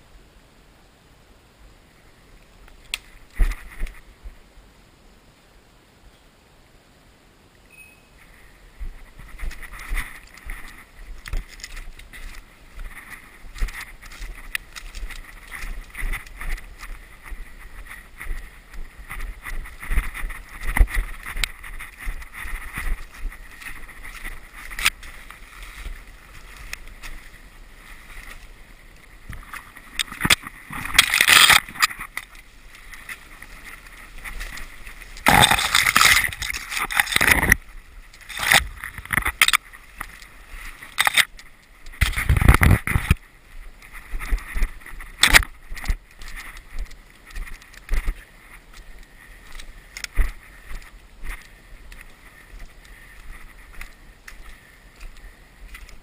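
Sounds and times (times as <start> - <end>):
rustling of grass and twigs: 0.0 - 5.6, 8.1 - 56.0
branches scraping across camera: 2.6 - 4.2, 8.2 - 56.0.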